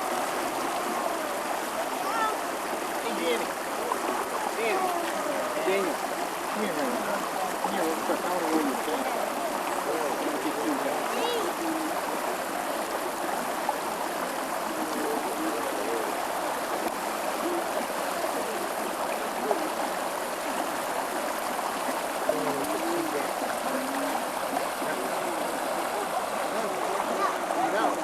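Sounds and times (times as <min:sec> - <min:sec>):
faint distant voices: 0:00.0 - 0:28.0
rushing flowing water: 0:00.0 - 0:28.0.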